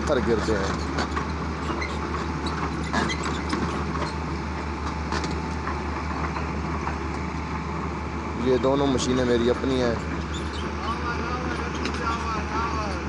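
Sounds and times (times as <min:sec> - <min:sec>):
excavator diesel engines running: 0:00.0 - 0:13.0.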